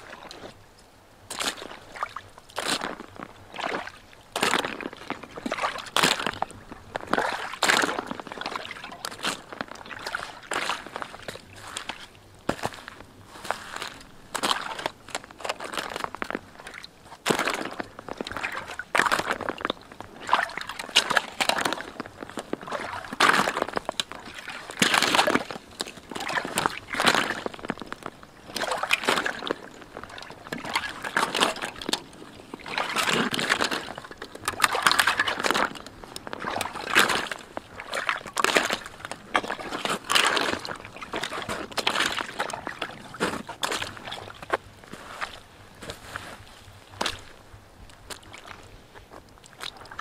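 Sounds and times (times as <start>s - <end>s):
rubber boots splashing through mud: 1.3s - 48.6s.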